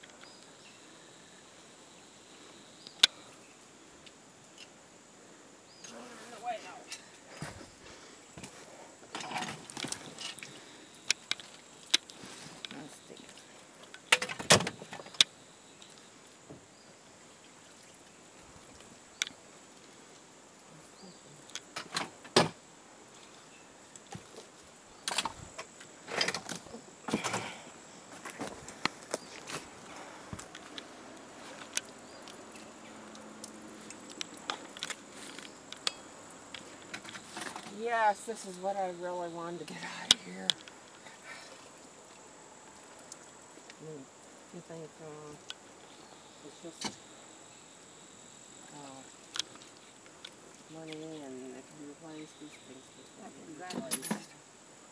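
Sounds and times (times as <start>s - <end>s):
faint background hiss: 0.0s - 54.9s.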